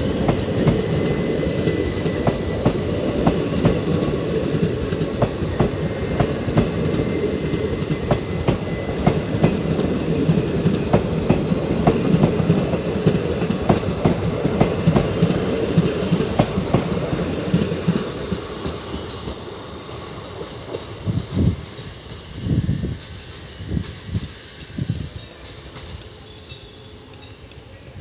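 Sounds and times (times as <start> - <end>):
train wheels clacking: 0.0 - 27.7
train coaches rumbling past: 0.0 - 28.0.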